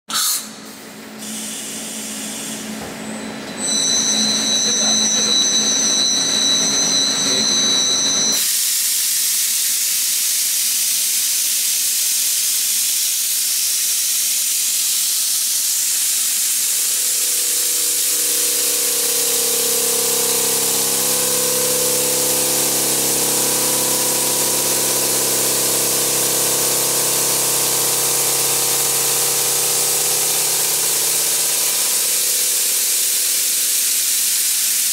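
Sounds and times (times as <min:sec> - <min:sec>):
cutter whine: 0:00.1 - 0:08.6, 0:14.8 - 0:34.3
machine noise with high tones: 0:00.1 - 0:34.9.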